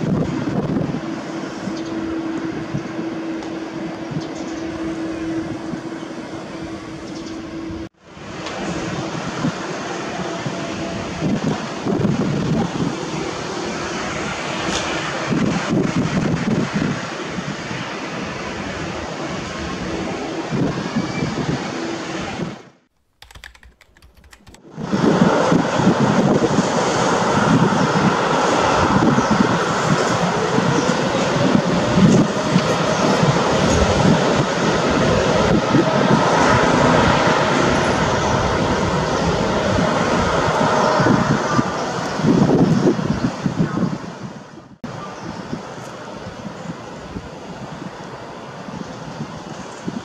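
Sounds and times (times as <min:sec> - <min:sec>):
jet engines idling: 0:00.0 - 0:22.4, 0:24.3 - 0:50.0.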